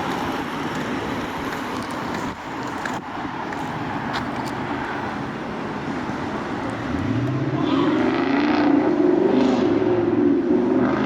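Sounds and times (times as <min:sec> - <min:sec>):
road traffic rumbling: 0:00.0 - 0:11.0.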